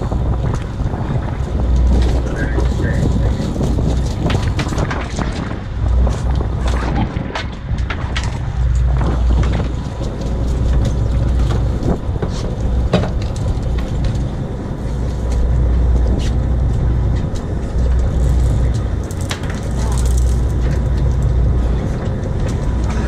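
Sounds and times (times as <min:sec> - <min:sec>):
boat engine rumbling: 0:00.0 - 0:23.0.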